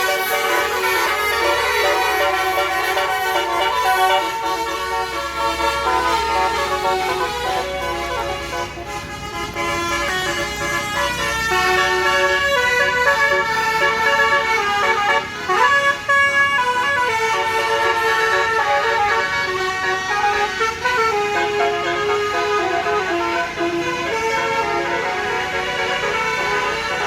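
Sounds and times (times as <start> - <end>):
musical bus air horn melody: 0.0 - 27.0.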